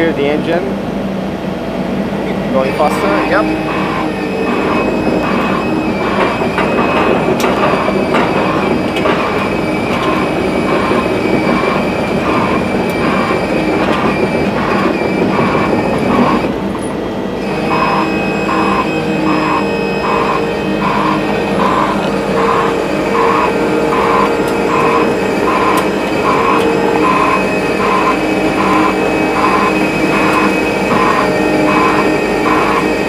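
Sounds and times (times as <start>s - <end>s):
concrete pump engine running: 0.0s - 33.0s
high steady whine: 0.0s - 33.0s.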